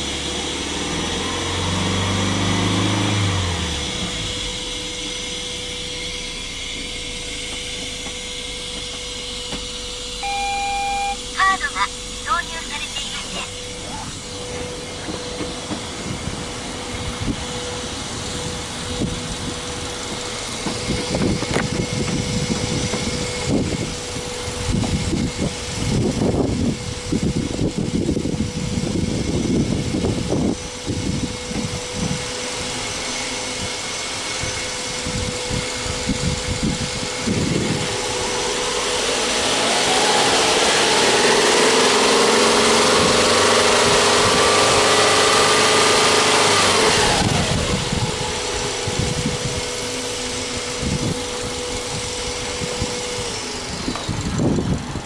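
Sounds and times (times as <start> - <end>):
car engine idling: 0.0 - 29.0, 29.6 - 55.0.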